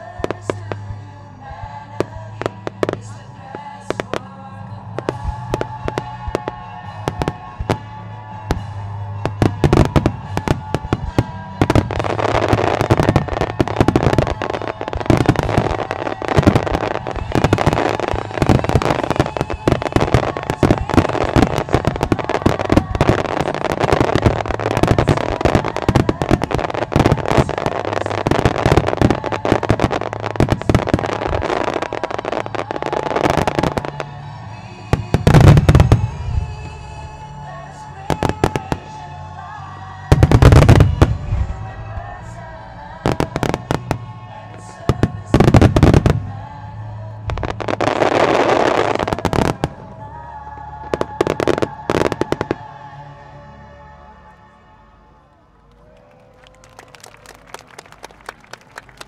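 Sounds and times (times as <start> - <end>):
fireworks bursts and crackles: 0.0 - 53.0, 55.8 - 59.0
music playing: 0.0 - 59.0.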